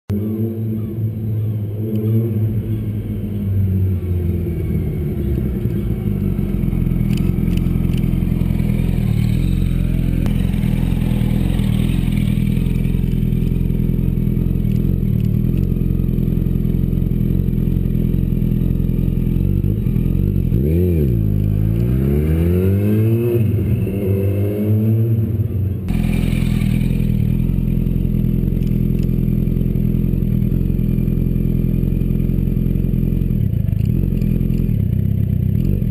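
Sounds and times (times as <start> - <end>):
motorcycle engine running and revving: 0.1 - 35.9.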